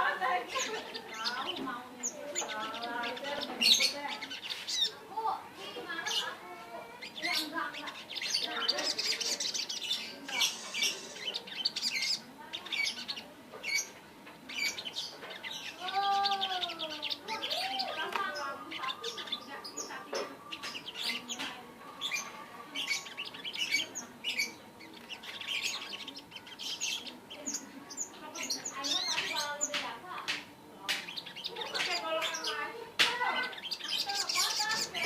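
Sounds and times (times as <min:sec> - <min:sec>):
songbird chirping and trilling: 0:00.0 - 0:35.0.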